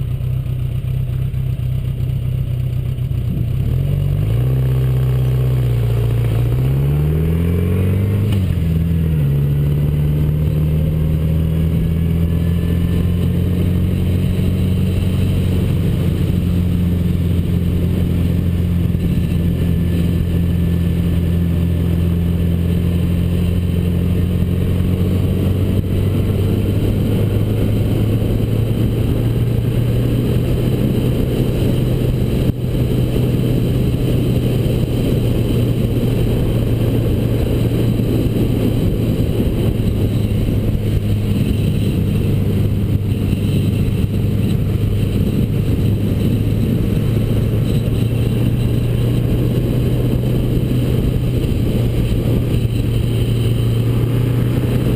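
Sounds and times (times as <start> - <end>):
motorcycle engine running: 0.0 - 54.9
road noise: 0.0 - 54.9
wind noise: 3.2 - 54.9.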